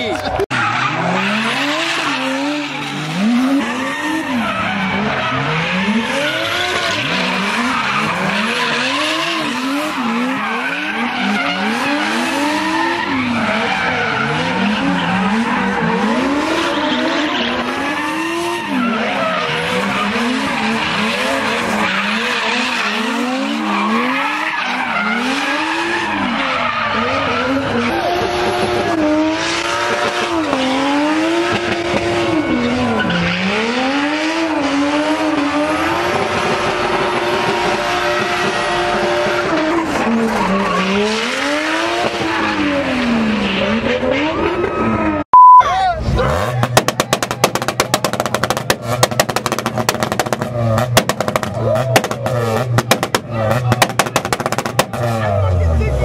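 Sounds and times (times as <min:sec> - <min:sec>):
car engines revving: 0:00.0 - 0:45.3, 0:45.9 - 0:56.0.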